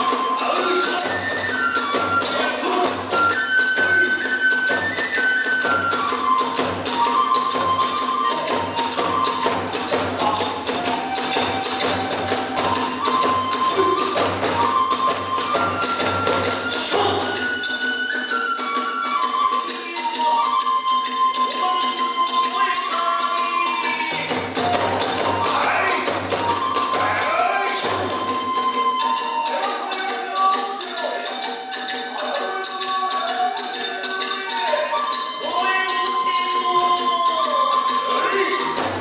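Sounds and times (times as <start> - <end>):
bamboo flute melody: 0.0 - 39.0
fast taiko drumming: 0.0 - 39.0.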